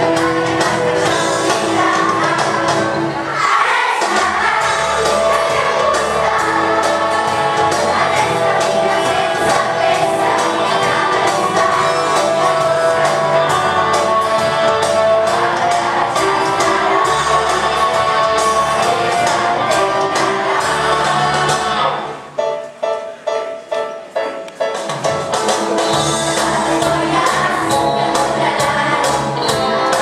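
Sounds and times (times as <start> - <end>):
children's choir singing: 0.0 - 22.4, 25.9 - 30.0
upbeat accompaniment with beat: 0.0 - 30.0.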